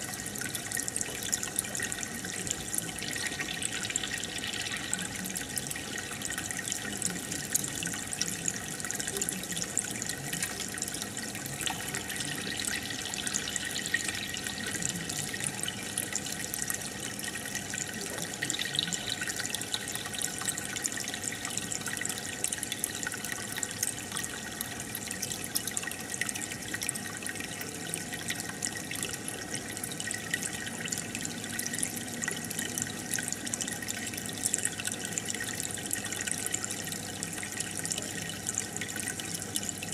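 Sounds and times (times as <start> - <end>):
aquarium bubbling: 0.0 - 39.9.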